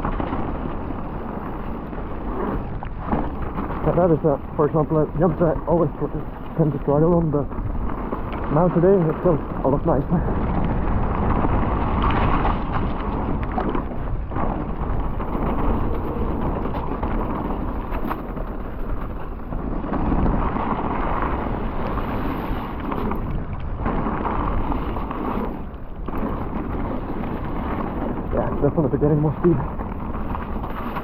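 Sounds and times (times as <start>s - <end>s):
bike tyre noise: 0.0s - 31.0s
wind rumbling on microphone: 0.0s - 31.0s.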